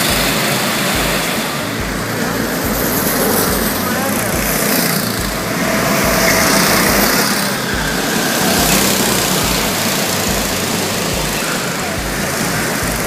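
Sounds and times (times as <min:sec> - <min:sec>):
go-kart engines running: 0:00.0 - 0:13.0.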